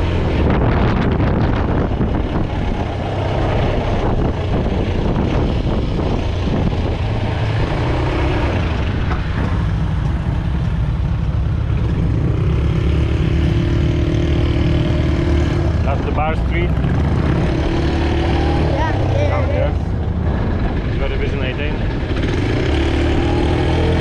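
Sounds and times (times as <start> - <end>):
quad bike engine running: 0.0 - 24.0
road and wind noise: 0.0 - 24.0.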